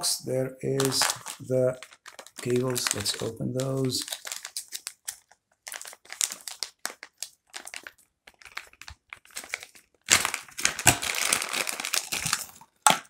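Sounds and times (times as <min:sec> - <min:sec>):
plastic bag crinkling: 0:00.7 - 0:13.0.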